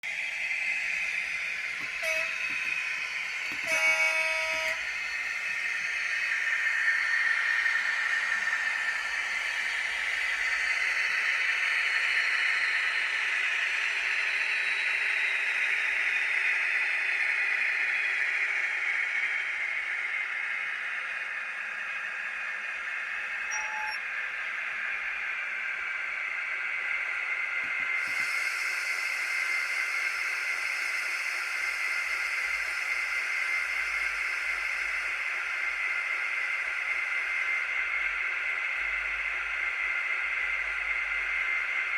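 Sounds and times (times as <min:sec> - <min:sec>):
hissy diesel engine sound: 0:00.1 - 0:41.9.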